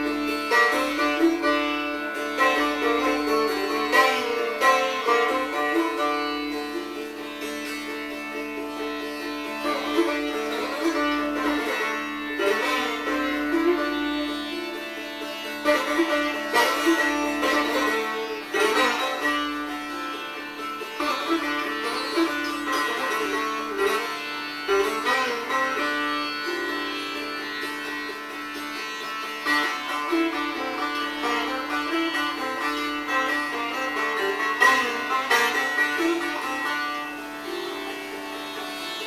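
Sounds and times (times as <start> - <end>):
plucked string notes: 0.0 - 39.0.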